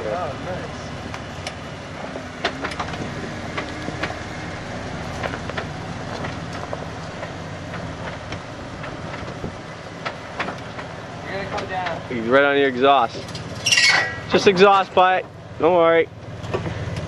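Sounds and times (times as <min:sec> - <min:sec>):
car engine running low: 0:00.0 - 0:17.0.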